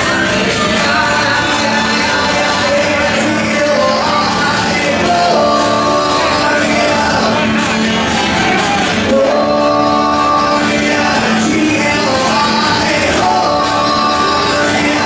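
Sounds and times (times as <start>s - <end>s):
acoustic guitar: 0.0s - 15.0s
man singing into microphone: 0.0s - 15.0s.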